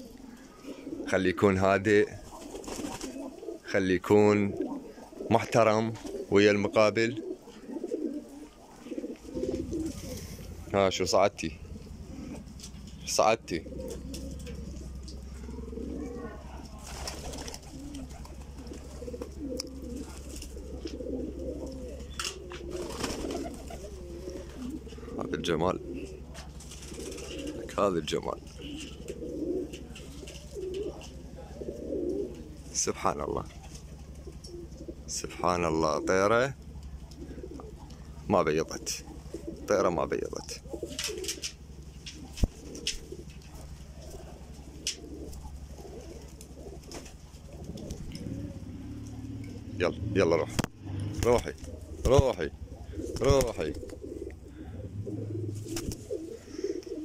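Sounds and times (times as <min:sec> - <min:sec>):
low hum: 0:00.0 - 0:57.0
pigeons cooing: 0:00.0 - 0:57.0
wing flaps: 0:02.1 - 0:03.7, 0:04.5 - 0:06.4, 0:07.2 - 0:39.7, 0:40.3 - 0:49.7, 0:50.4 - 0:57.0.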